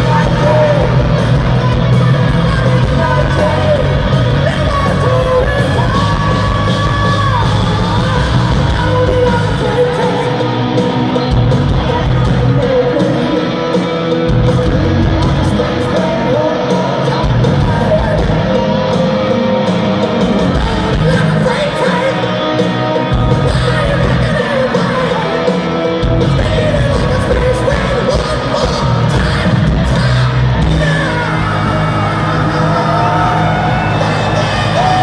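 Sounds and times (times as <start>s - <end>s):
fans yelling and whooping: 0.0s - 35.0s
hard rock band playing live: 0.0s - 35.0s
lead singer: 0.0s - 35.0s.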